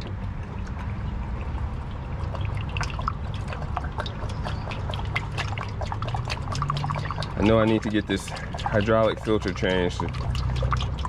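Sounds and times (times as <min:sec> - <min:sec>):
steady low rumble: 0:00.0 - 0:11.0
fluid pouring and gurgling: 0:00.1 - 0:11.0.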